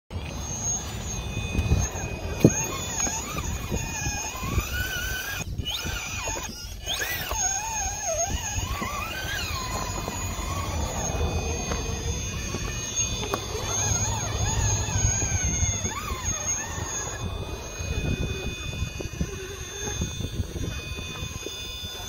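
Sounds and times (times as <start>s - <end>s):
electric motor whining: 0.1s - 22.0s.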